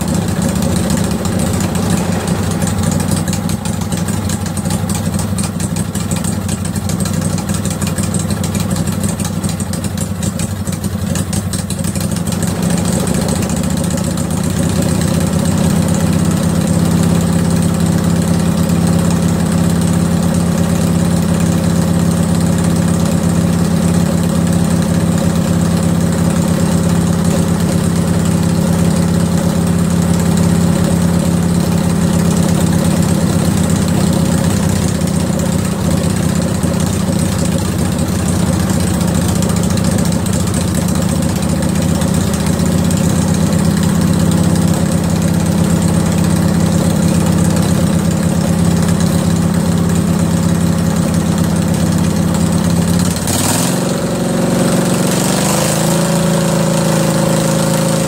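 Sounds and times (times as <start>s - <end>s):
lawn tractor engine idling: 0.0s - 58.0s.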